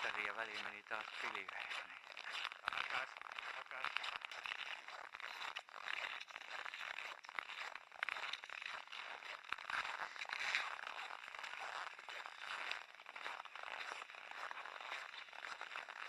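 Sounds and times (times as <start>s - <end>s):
crunching on packed snow: 0.0s - 16.0s.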